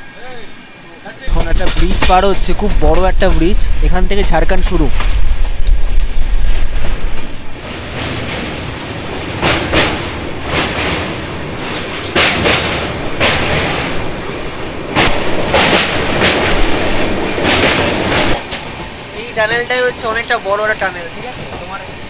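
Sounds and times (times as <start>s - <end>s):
train coach rumble: 0.0s - 22.0s
wheels clacking over rail joints: 0.9s - 22.0s.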